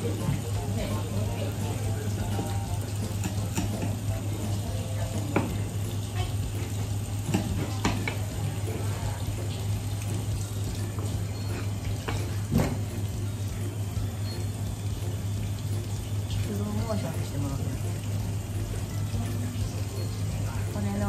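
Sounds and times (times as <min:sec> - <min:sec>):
tap water running into sink: 0:00.0 - 0:21.0.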